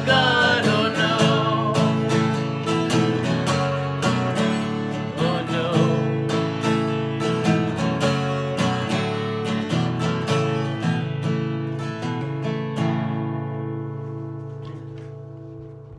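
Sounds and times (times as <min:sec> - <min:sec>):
acoustic guitar strumming: 0:00.0 - 0:15.9.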